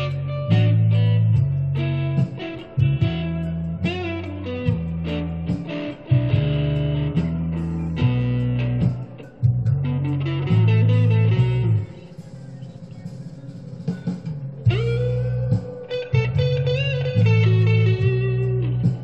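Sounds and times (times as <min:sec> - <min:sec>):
electric guitar blues lead: 0:00.0 - 0:19.0.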